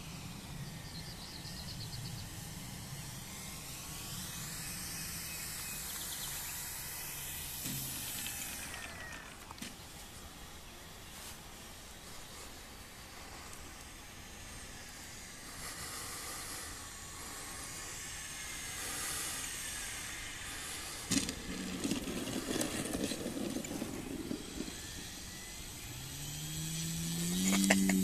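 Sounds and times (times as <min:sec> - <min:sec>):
model plane motor whining: 0:00.0 - 0:28.0
wheels rumbling on grass: 0:00.0 - 0:28.0.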